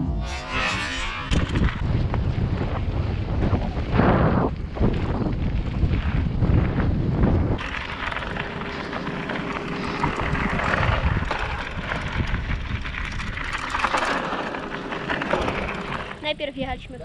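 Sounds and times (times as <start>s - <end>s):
bike tyres crunching on gravel: 0.9s - 16.4s
wind buffeting microphone: 1.2s - 17.0s.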